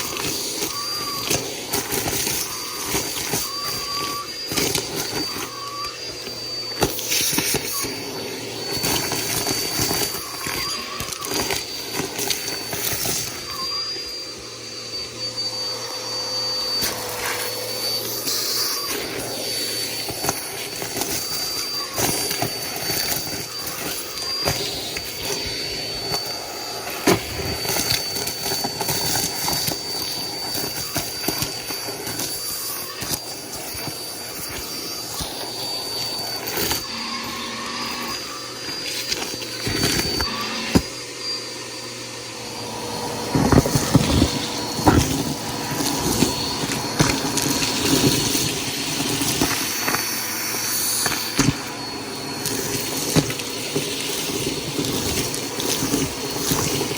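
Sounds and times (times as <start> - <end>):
upright vacuum cleaner running: 0.0 - 56.9.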